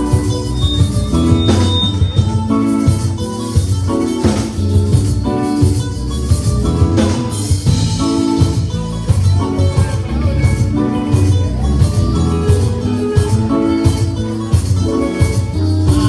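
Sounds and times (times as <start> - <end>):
live band playing loud: 0.0 - 16.0.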